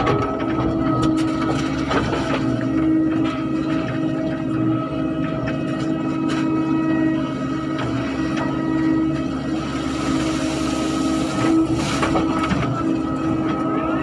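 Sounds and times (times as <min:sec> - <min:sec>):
excavator engine running: 0:00.0 - 0:14.0
hydraulic whine: 0:00.0 - 0:14.0.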